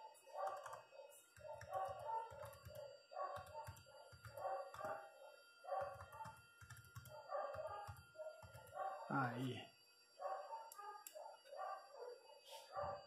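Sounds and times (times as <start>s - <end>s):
dog barking: 0.0s - 6.3s, 7.1s - 9.1s, 10.2s - 13.0s.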